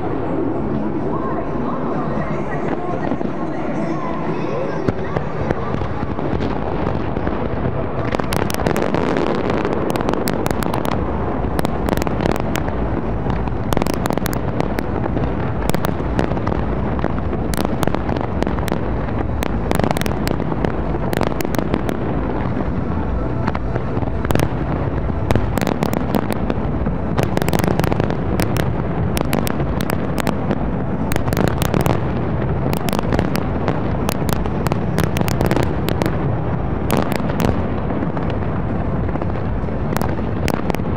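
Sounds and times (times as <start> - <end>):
constant low din: 0.0 - 40.9
fireworks bangs and crackles: 0.0 - 40.9.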